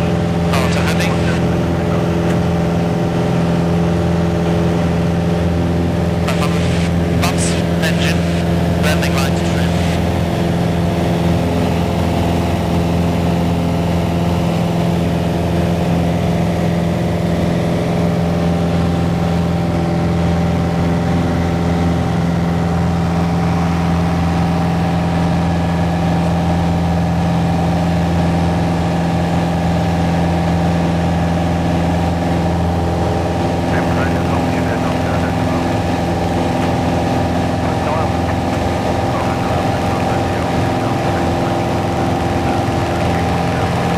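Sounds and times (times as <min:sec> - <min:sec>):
airplane engine droning in flight: 0:00.0 - 0:43.9.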